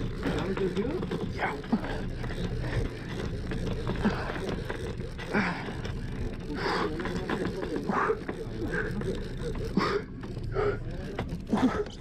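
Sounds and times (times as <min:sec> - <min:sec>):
boat engine rumble: 0:00.0 - 0:12.0
fishing reel clicking: 0:00.0 - 0:12.0.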